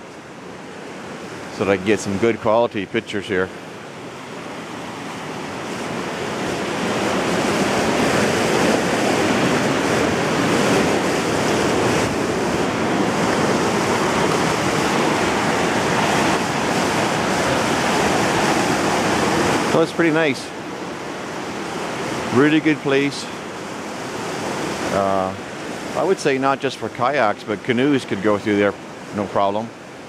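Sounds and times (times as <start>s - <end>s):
river rapids rushing: 0.0s - 30.0s.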